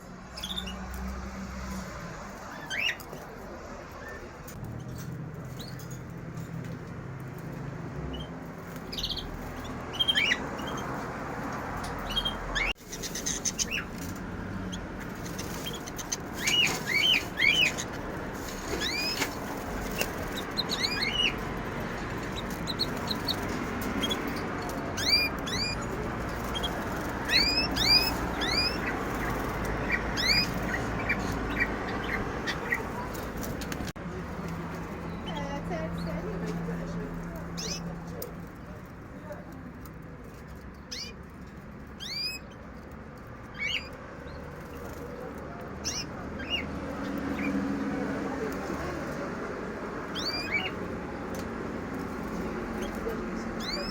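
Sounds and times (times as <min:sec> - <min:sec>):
small birds chirping: 0:00.0 - 0:53.9
steady background noise: 0:00.0 - 0:53.9.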